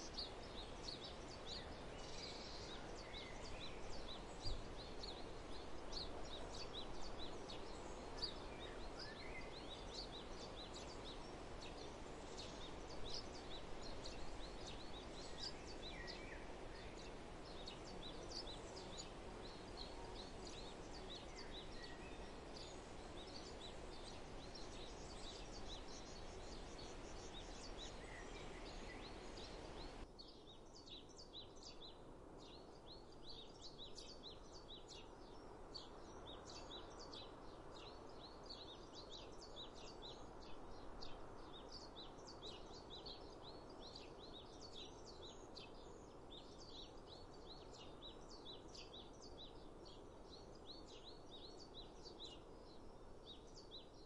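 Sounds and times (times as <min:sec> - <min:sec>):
faint steady background hiss: 0:00.0 - 0:54.0
songbirds chirping and singing: 0:00.0 - 0:54.0.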